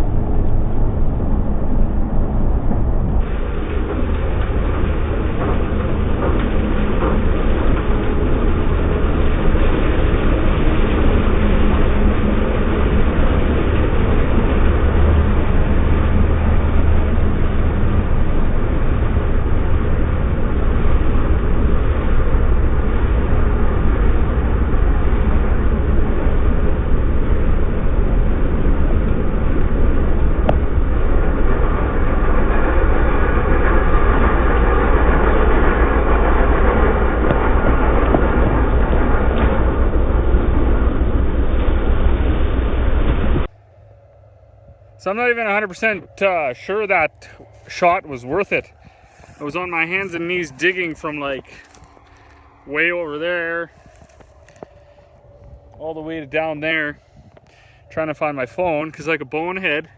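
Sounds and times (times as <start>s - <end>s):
combine harvester rumbling: 0.0s - 59.9s.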